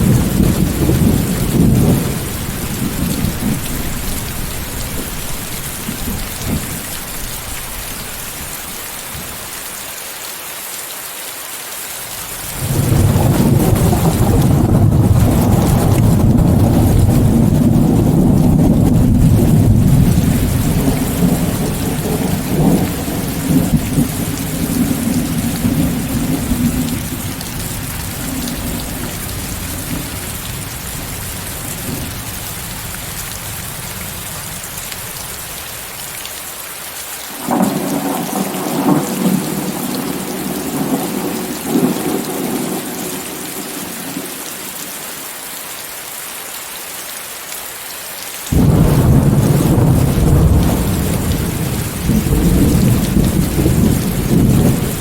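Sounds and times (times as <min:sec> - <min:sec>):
thunder rumbling: 0:00.0 - 0:09.4, 0:12.4 - 0:35.2, 0:37.4 - 0:44.3, 0:48.5 - 0:55.0
steady rain hissing: 0:00.0 - 0:55.0.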